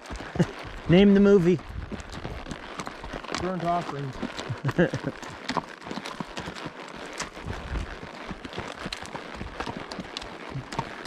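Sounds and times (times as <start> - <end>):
footsteps crunching on dry ground: 0.0 - 11.0.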